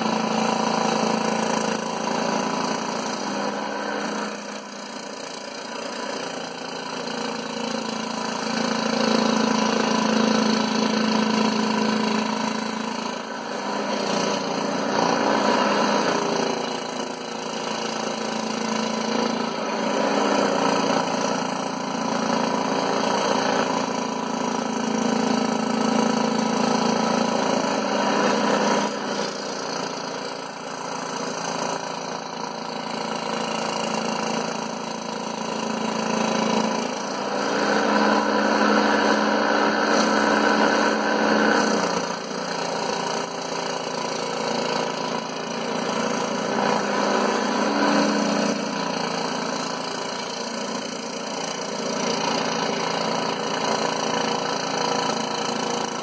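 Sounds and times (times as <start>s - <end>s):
scroll saw cutting: 0.0s - 56.0s.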